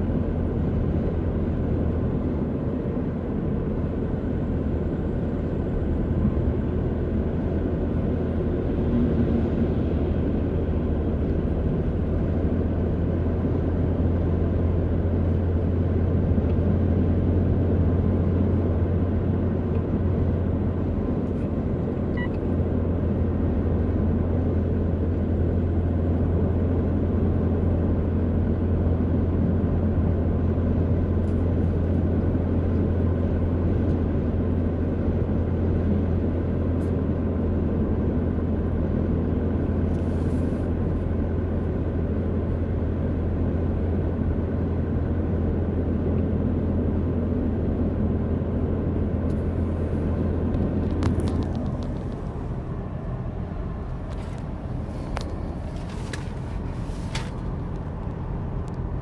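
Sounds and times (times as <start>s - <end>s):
engine and tyre drone: 0.0s - 59.0s.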